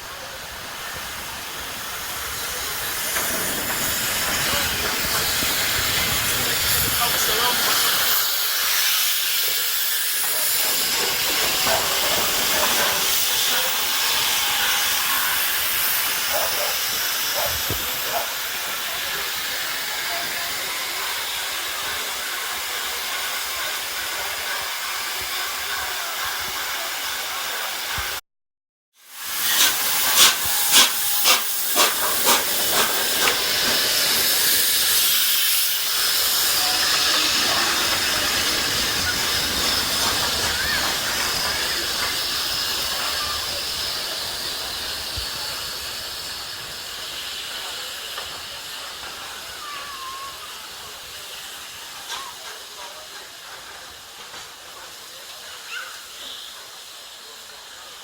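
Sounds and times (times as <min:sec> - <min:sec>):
steam hissing: 0:00.0 - 0:28.2, 0:29.0 - 0:58.0
steam locomotive exhaust beats: 0:00.0 - 0:28.2, 0:29.1 - 0:58.0.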